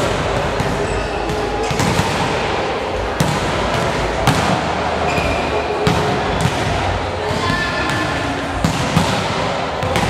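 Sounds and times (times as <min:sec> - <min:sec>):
sports hall background noise: 0:00.0 - 0:10.0.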